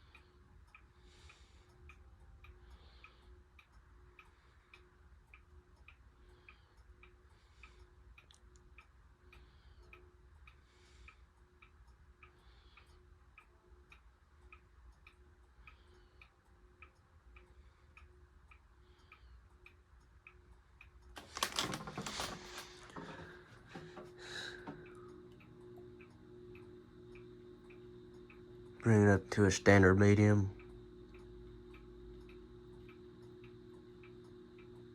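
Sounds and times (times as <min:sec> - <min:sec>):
ceiling fan motor hum: 0:00.0 - 0:34.9
fan ticking: 0:00.0 - 0:34.9.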